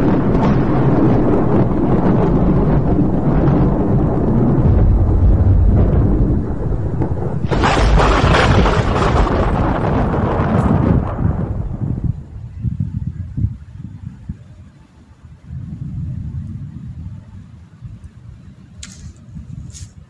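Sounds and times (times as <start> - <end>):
thunder rumbling: 0.0 - 19.8.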